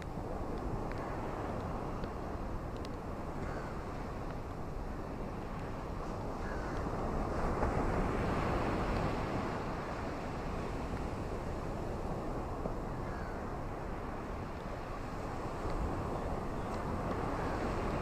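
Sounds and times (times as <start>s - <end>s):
ocean waves washing on beach: 0.0s - 18.0s.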